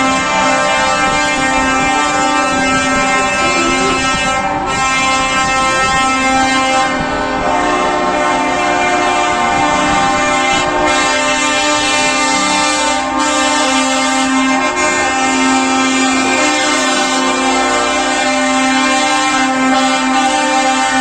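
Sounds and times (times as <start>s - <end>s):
truck air horns blaring: 0.0s - 21.0s.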